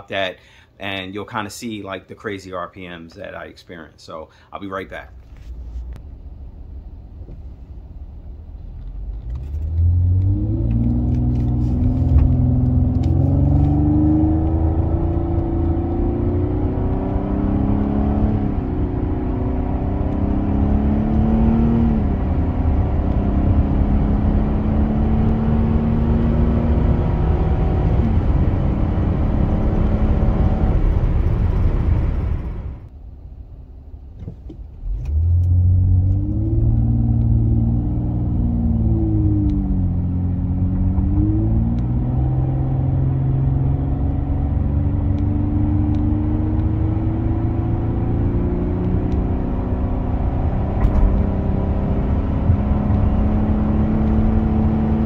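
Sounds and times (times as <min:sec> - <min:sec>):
car engine revving: 0:05.2 - 0:32.9, 0:35.0 - 0:55.0.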